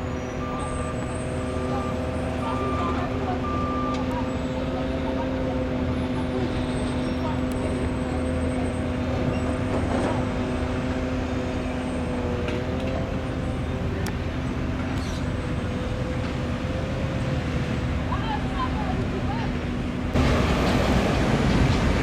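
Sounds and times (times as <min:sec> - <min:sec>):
engine droning hum: 0:00.0 - 0:22.0.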